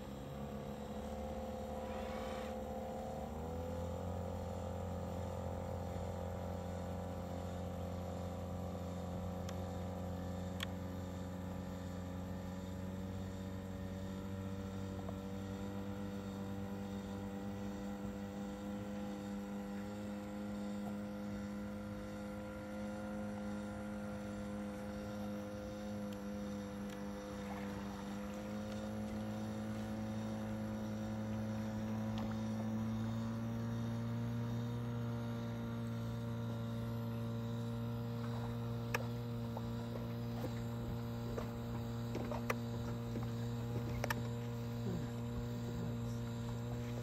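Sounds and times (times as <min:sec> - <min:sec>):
electric motor hum: 0:00.0 - 0:47.0.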